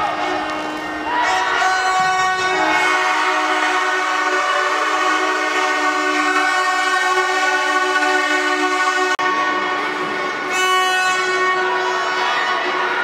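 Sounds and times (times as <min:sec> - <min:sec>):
horns blaring: 0:00.0 - 0:13.0.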